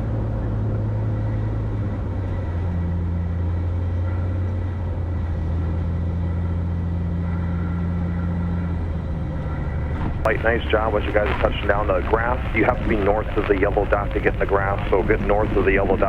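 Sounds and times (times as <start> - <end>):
light aircraft engine drone: 0.0 - 16.0.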